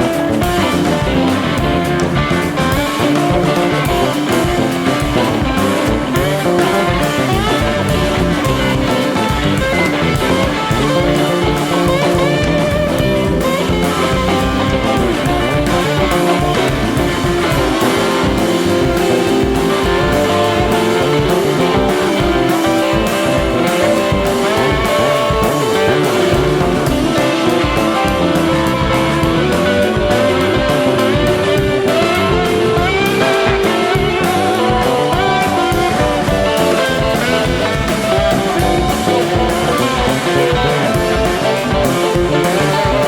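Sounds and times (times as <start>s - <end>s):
rock music with guitars: 0.0s - 43.0s.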